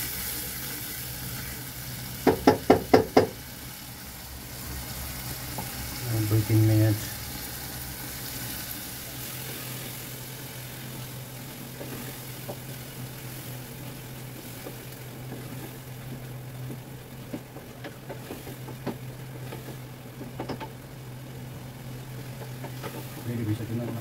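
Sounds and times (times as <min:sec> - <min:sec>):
low hum and hiss: 0:00.0 - 0:24.0.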